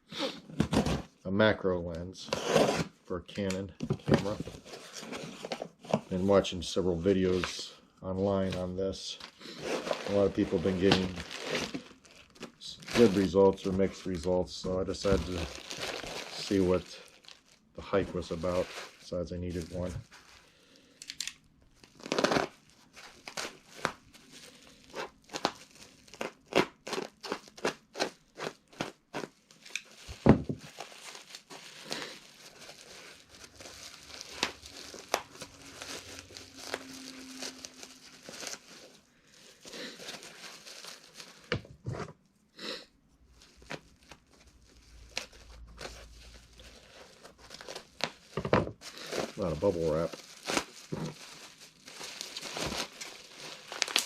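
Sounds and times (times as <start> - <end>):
bubble wrap crinkling: 0.1 - 1.2, 2.2 - 42.2, 43.2 - 54.0
packaging tearing: 0.1 - 1.2, 2.2 - 3.5, 8.4 - 41.6, 43.3 - 54.0.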